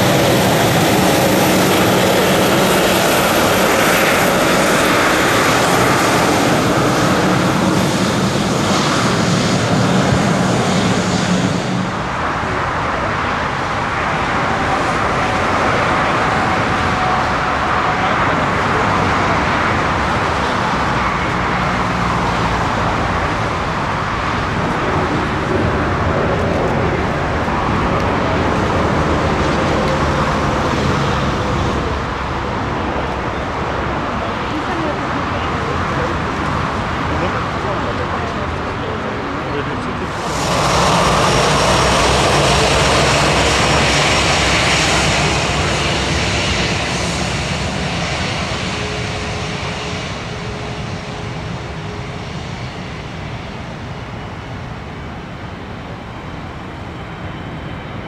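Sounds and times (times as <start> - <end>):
jet engine roaring: 0.0 - 58.0.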